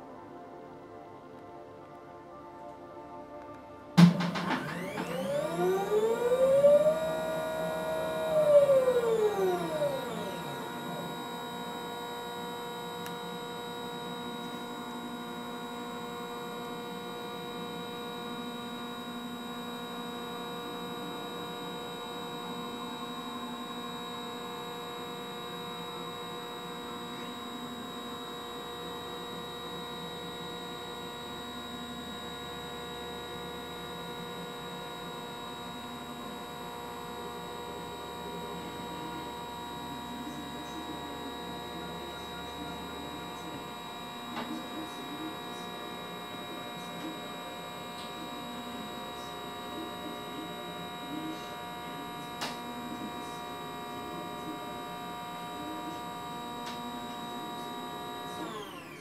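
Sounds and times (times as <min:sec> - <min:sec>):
telescope motors whining: 0:04.3 - 0:59.0.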